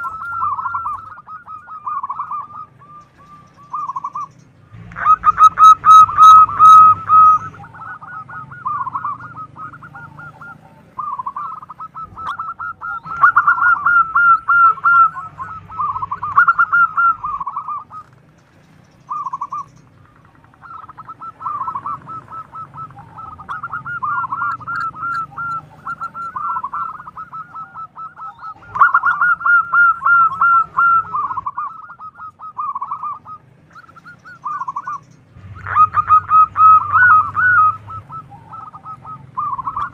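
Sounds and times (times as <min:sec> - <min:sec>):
dove cooing in trills: 0:00.0 - 0:39.9.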